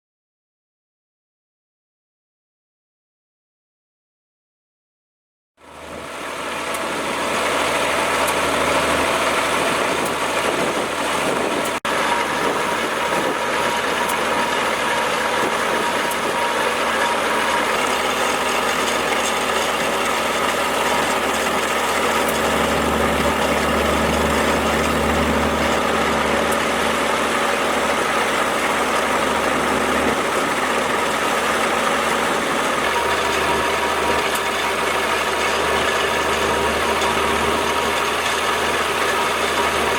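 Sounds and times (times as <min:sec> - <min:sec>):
diesel engine running: 0:05.6 - 0:39.9.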